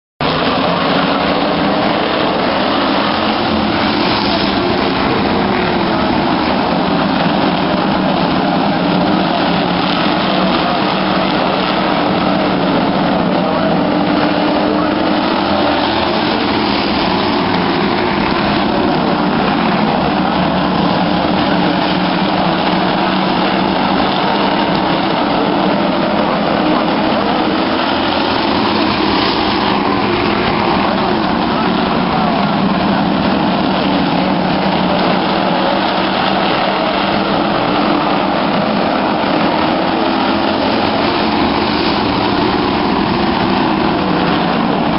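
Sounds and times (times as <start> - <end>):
stock car engines droning: 0.2 - 44.9.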